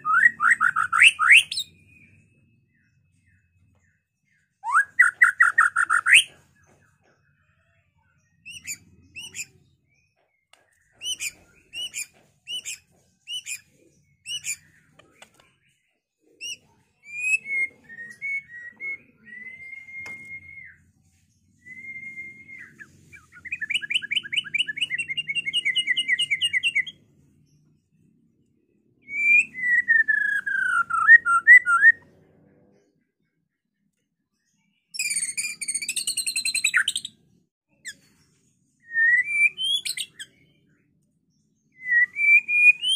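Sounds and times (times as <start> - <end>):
bird singing whistles and trills: 0.0 - 7.6, 8.2 - 15.2, 16.4 - 27.0, 29.0 - 32.1, 34.9 - 37.2, 37.8 - 40.8, 41.6 - 42.9.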